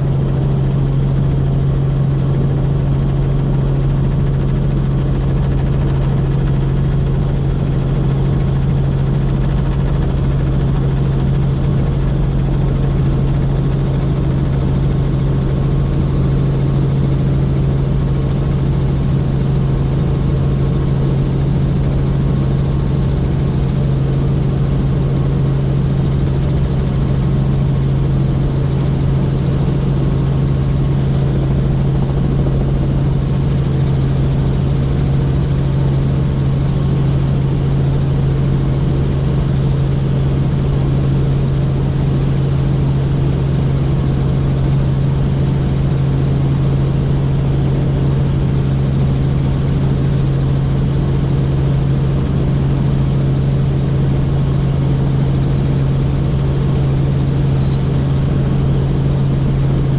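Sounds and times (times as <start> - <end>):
helicopter droning in flight: 0.0 - 59.9.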